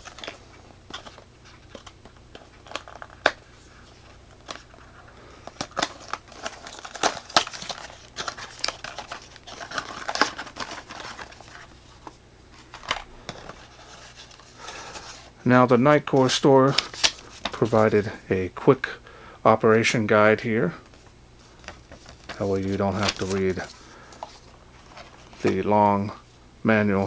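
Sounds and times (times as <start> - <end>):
paper packaging crinkling: 0.0 - 18.2, 20.7 - 25.8.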